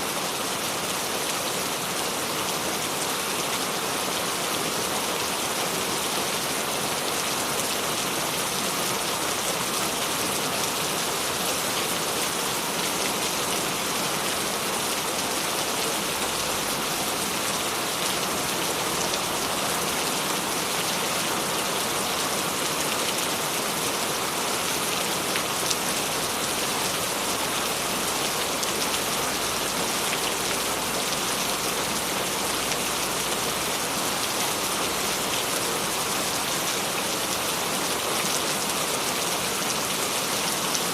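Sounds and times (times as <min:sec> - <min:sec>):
rain pattering: 0:06.9 - 0:40.9.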